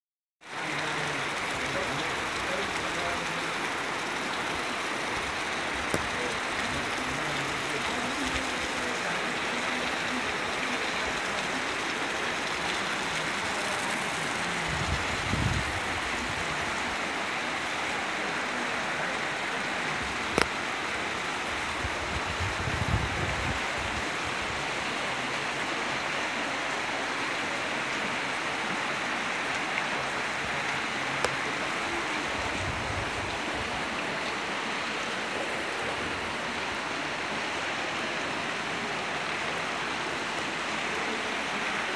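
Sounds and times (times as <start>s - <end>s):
heavy rain pouring: 0.4s - 41.9s.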